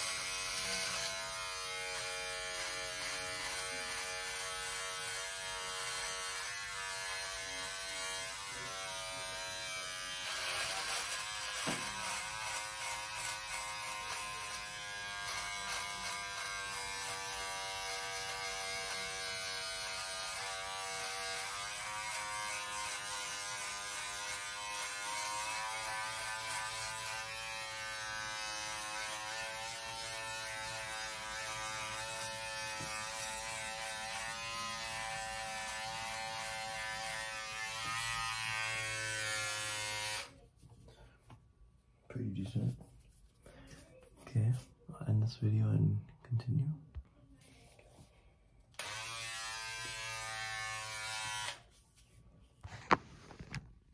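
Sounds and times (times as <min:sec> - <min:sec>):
electric shaver buzzing: 0:00.0 - 0:40.4, 0:48.7 - 0:51.7.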